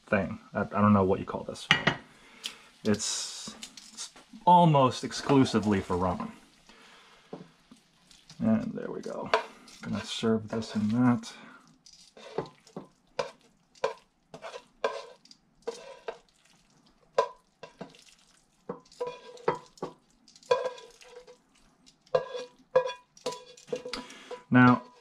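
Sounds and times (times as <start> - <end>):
utensil scraping in a frying pan: 3.0 - 25.0.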